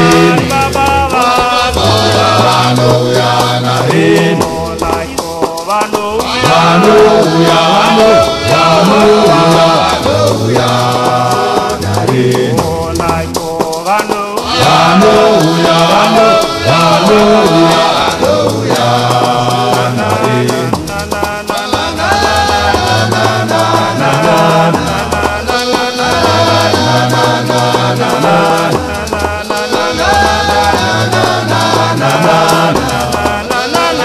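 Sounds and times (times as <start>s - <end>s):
gospel band music: 0.0s - 34.0s.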